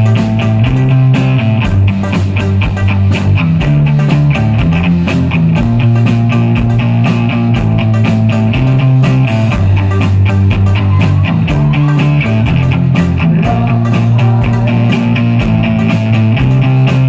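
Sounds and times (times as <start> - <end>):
fast drum beat: 0.0 - 17.0
live rock band playing: 0.0 - 17.0.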